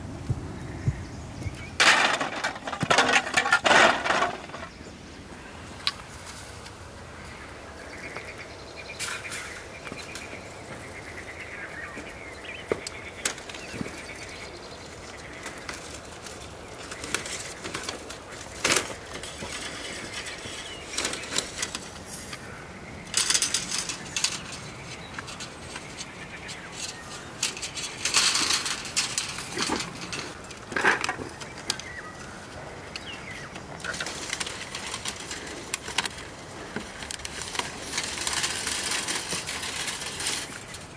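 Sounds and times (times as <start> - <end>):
dry reeds rustling and knocking: 0.2 - 40.9.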